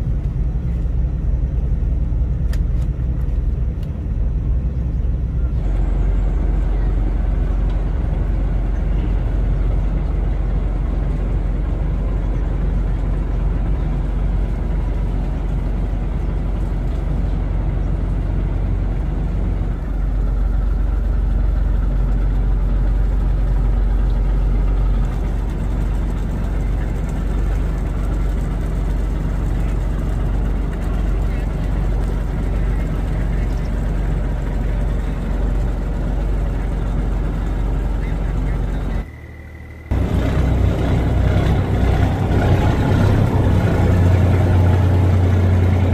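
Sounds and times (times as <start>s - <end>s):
motorboat engine rumbling: 0.0s - 45.9s.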